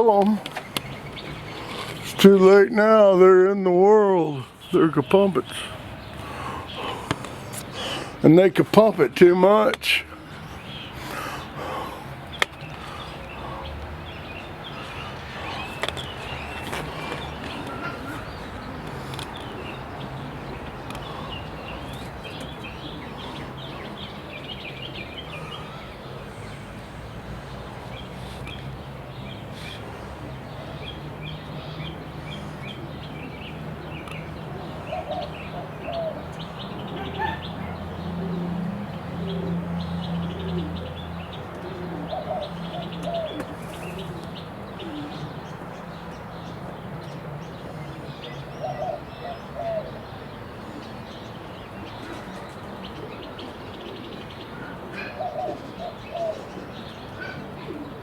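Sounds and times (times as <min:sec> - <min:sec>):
pigeons cooing: 0:00.0 - 0:08.8, 0:10.0 - 0:58.0
pigeons chirping: 0:00.0 - 0:58.0.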